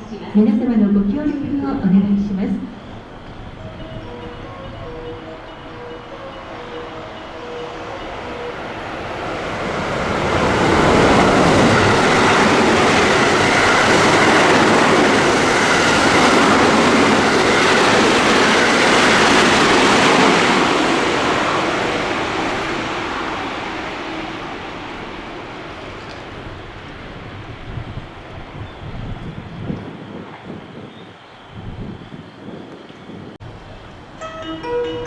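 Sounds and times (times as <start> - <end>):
train wheels rushing on rails: 1.0 - 33.7.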